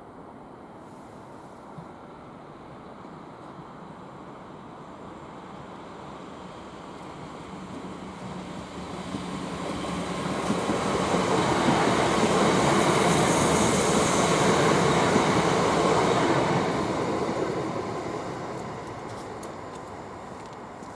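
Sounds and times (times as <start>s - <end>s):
electric train passing: 2.0s - 20.9s.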